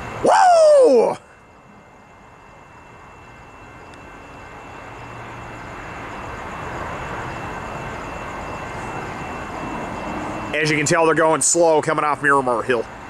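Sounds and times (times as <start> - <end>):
diesel locomotive engines: 0.0 - 13.0.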